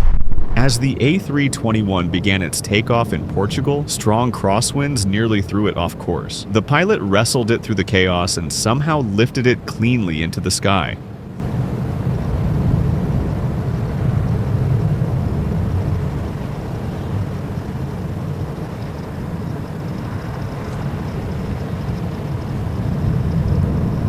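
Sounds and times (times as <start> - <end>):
wind gusting on microphone: 0.0 - 8.2, 11.1 - 24.0
faint high whine: 0.0 - 24.0
jet engines rumbling: 0.0 - 24.0.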